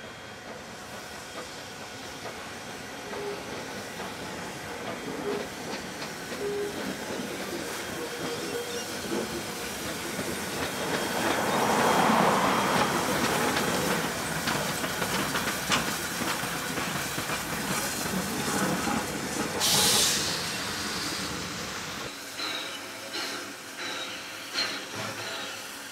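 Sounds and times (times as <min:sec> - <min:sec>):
steam locomotive exhaust: 0:00.0 - 0:25.9
train wheels clicking over rail joints: 0:00.4 - 0:25.6.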